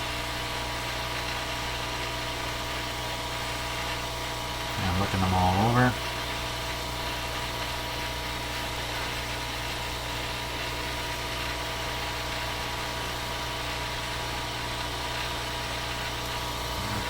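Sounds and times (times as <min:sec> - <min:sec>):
steady low hum with hiss: 0:00.0 - 0:17.0.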